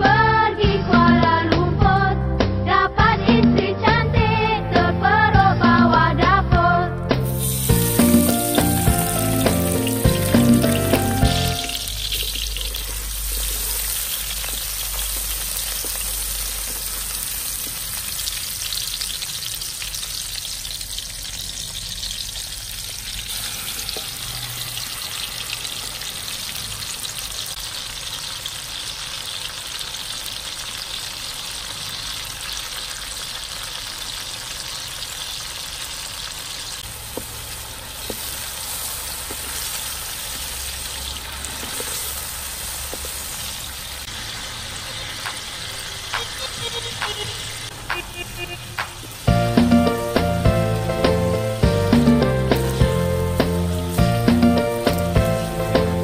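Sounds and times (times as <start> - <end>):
food sizzling in a wok: 7.2 - 56.0.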